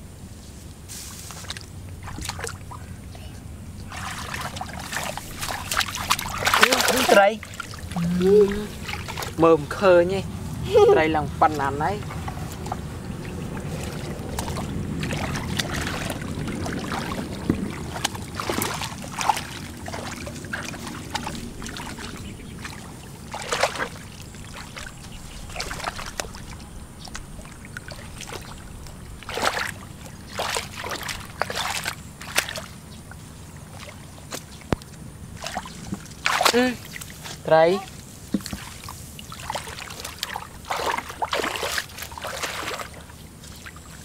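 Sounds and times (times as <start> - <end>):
low steady rumble: 0.0 - 44.0
muddy water splashing: 0.9 - 44.0.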